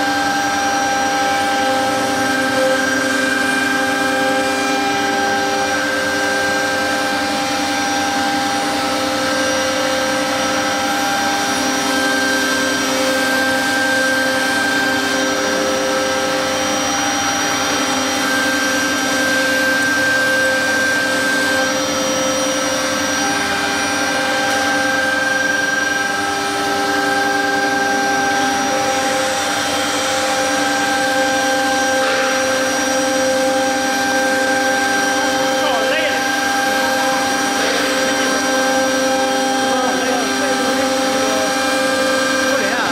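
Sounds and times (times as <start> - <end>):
router spindle whine and cutting: 0.0 - 42.9
stepper motor tones: 0.0 - 42.9.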